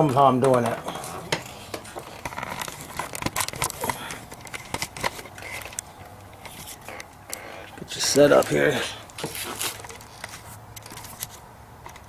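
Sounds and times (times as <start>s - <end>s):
camera being handled: 0.5s - 7.1s, 8.3s - 12.0s.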